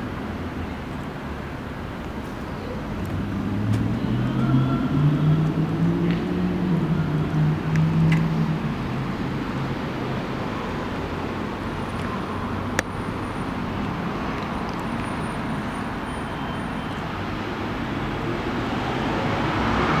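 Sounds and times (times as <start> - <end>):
distant road traffic: 0.0 - 20.0.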